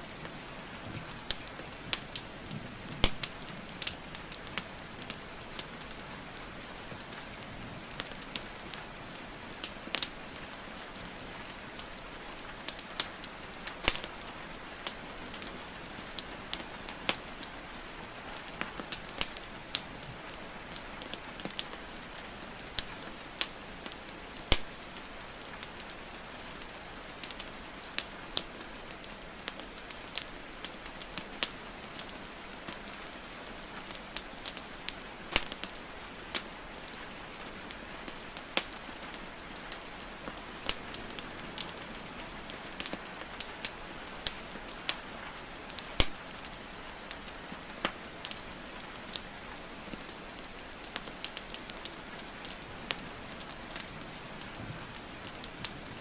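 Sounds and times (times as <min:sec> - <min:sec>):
rain falling: 0:00.0 - 0:56.0
wood fire crackling: 0:00.0 - 0:56.0.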